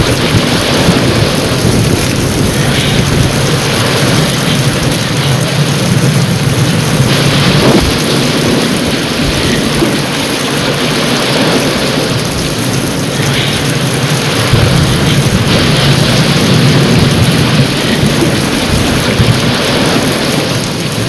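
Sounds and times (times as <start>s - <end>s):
rumble of thunder: 0.0s - 21.0s
steady rain hiss: 0.0s - 21.0s.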